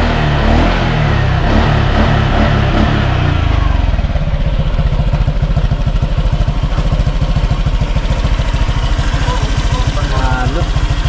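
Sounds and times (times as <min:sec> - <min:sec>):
scooter engine revving and idling: 0:00.0 - 0:11.0.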